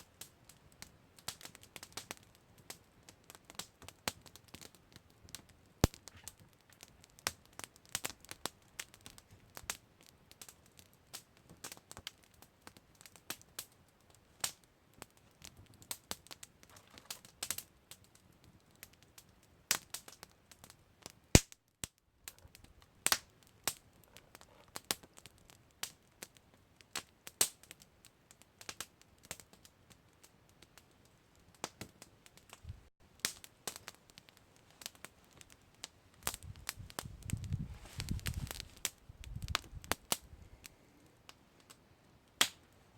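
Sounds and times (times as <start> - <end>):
campfire crackling: 0.0 - 42.9
faint fire hiss: 0.0 - 42.9.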